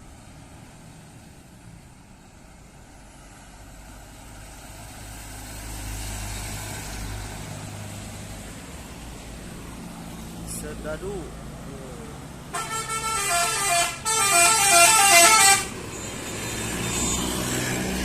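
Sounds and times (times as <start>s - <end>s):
bus diesel engine passing: 0.0s - 18.0s
road noise hiss: 0.0s - 18.0s.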